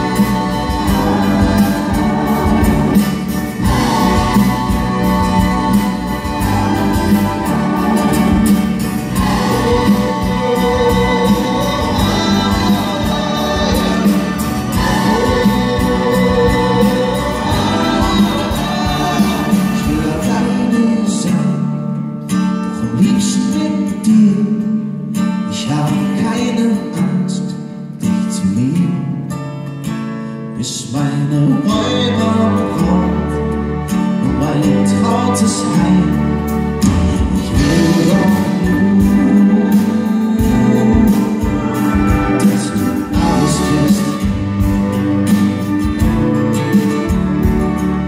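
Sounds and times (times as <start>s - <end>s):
acoustic guitar: 0.0s - 48.0s.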